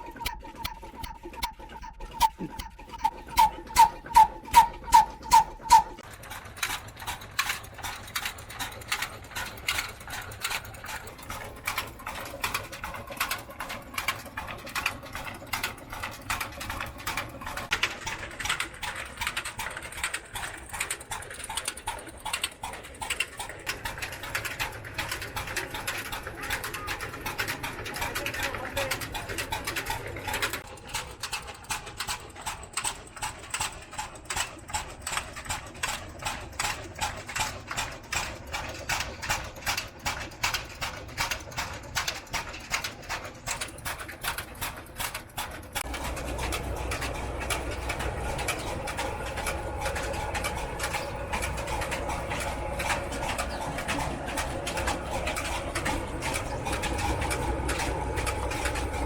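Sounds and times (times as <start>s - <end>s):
slow diesel engine running: 0.0s - 59.0s.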